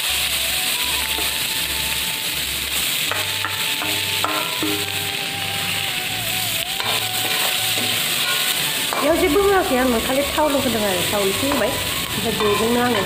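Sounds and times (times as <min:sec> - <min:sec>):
fruit sizzling in hot oil: 0:00.0 - 0:13.0
background music with low beat: 0:00.9 - 0:13.0.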